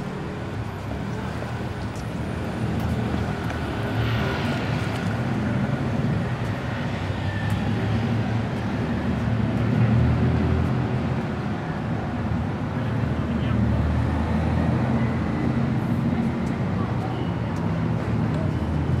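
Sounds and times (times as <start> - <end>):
city street traffic rumble: 0.0 - 19.0.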